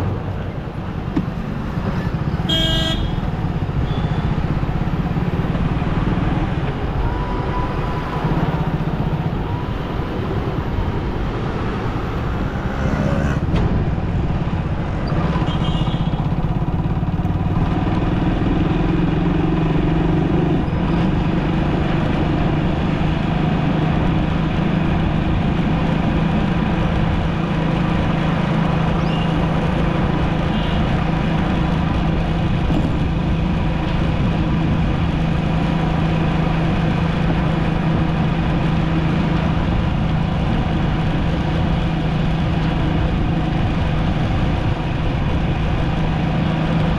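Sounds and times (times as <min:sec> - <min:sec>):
car road noise: 0:00.0 - 0:46.9
low engine hum: 0:00.0 - 0:46.9.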